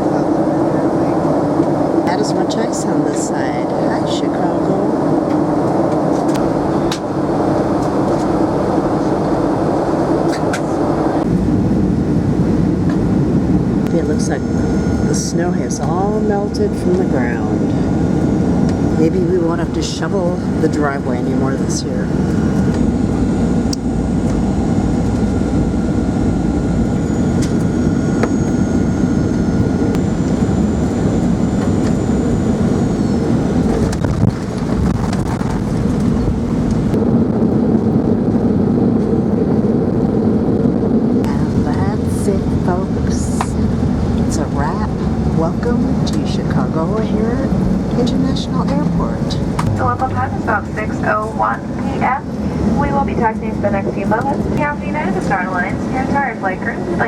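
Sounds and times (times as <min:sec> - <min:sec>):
airliner cabin engine noise: 0:00.0 - 0:57.0
thin high whine: 0:04.0 - 0:37.1, 0:41.2 - 0:57.0.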